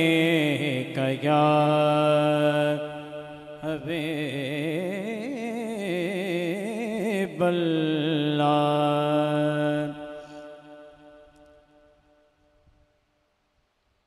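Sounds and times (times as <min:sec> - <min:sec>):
man singing unaccompanied: 0:00.0 - 0:11.4.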